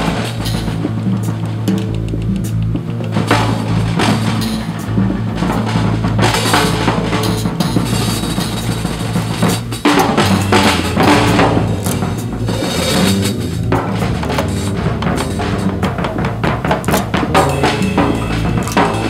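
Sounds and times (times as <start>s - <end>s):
bass line: 0.0s - 19.0s
drum kit solo: 0.0s - 19.0s.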